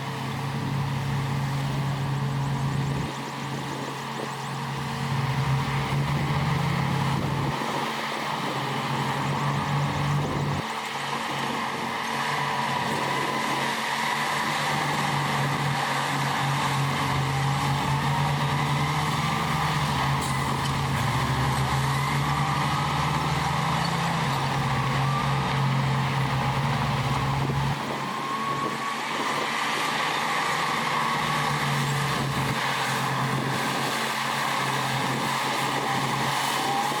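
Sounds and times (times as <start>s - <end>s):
diesel machinery engine drone: 0.0s - 37.0s.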